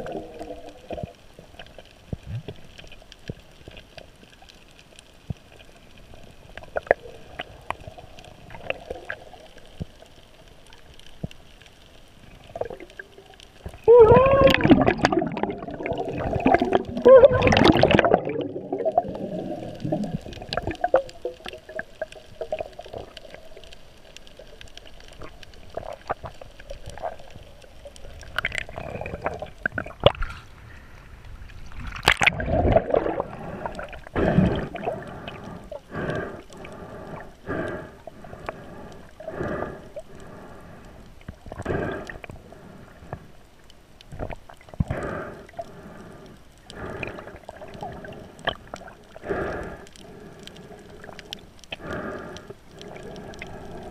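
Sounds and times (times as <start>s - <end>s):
underwater water gurgling: 0.0s - 53.9s.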